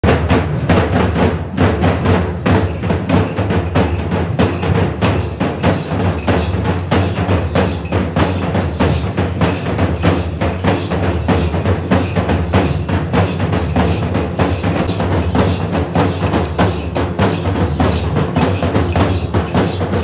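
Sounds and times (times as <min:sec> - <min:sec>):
percussion ensemble drumming: 0:00.0 - 0:20.0.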